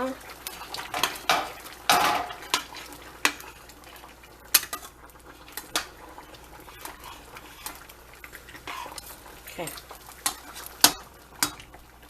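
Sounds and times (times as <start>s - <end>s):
utensil scraping cooking pot: 0.0s - 11.9s.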